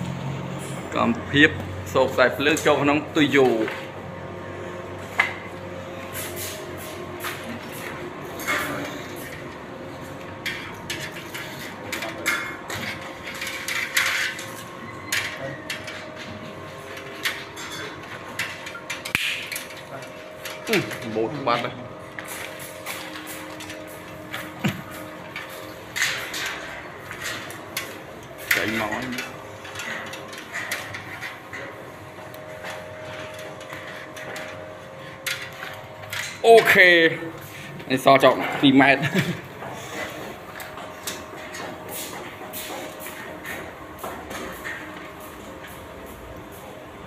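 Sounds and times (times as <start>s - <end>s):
wires rustling and scraping: 0.6s - 47.0s.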